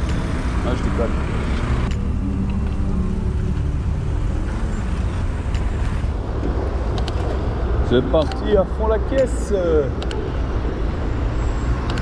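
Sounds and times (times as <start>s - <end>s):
vehicle engine running: 0.0s - 12.0s
wind and road rumble: 0.0s - 12.0s.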